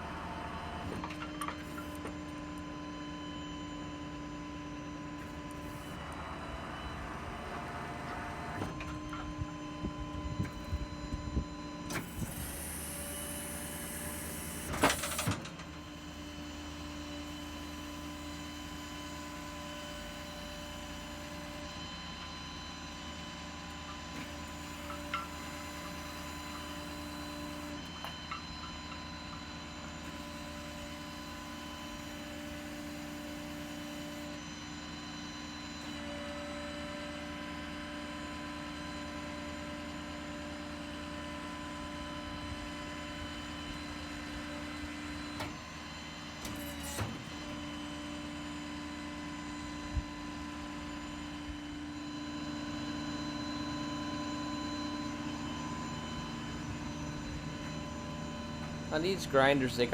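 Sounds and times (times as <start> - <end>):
crane motor whine: 0.0 - 59.9.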